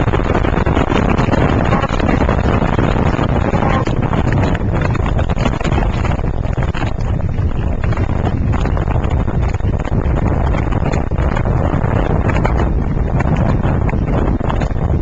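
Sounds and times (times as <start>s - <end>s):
waves washing on river: 0.0s - 15.0s
wind buffeting microphone: 0.0s - 15.0s.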